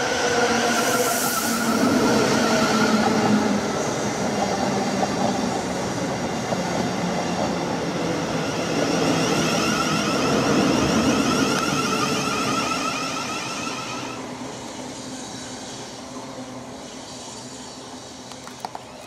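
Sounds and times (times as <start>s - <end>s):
high whine of train: 0.0s - 19.0s
train wheels rumbling on rail: 0.0s - 19.0s.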